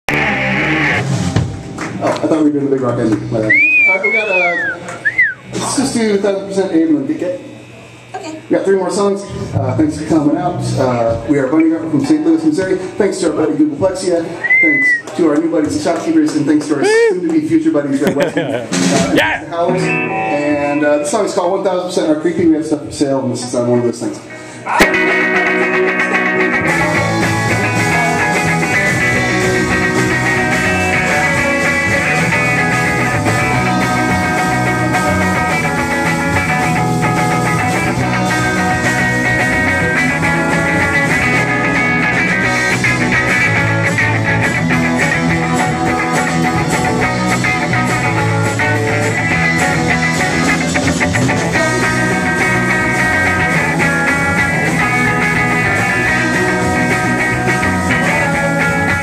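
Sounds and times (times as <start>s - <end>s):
bass guitar: 0.0s - 6.3s, 9.2s - 23.0s, 24.6s - 59.0s
drums: 0.0s - 6.3s, 9.3s - 23.0s, 24.6s - 59.0s
electric guitar: 0.0s - 59.0s.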